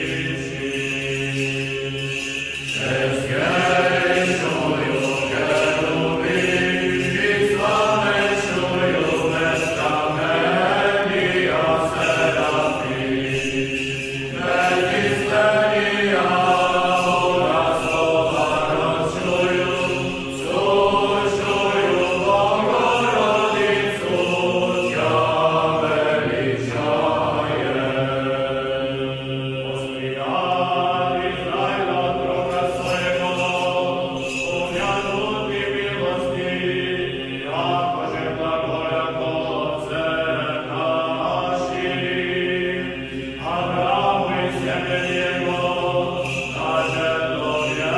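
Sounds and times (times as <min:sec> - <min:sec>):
voices chanting: 0:00.0 - 0:47.9.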